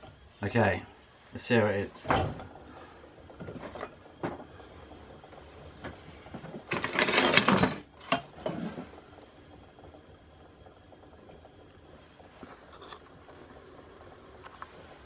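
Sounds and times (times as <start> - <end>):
washing machine rotor whirring: 0.0 - 15.0.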